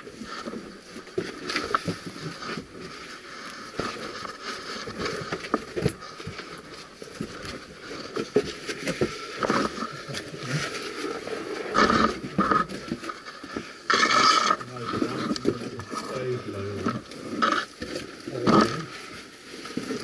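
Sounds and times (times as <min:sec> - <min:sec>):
scraping and crunching of stone: 0:03.7 - 0:20.0.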